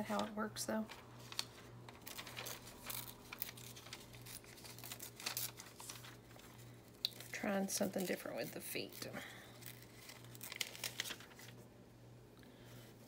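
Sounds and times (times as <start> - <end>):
steady low hum: 0.0 - 13.0
paper rustling and crinkling: 0.1 - 11.7.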